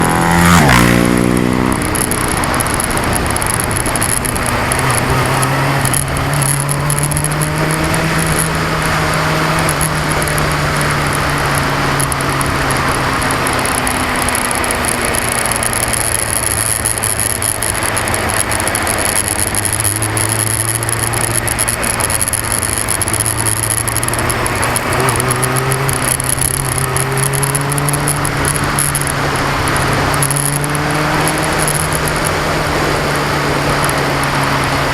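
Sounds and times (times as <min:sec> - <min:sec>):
camera vibration rattle: 0:00.0 - 0:34.9
motorcycle engine running: 0:00.0 - 0:34.9.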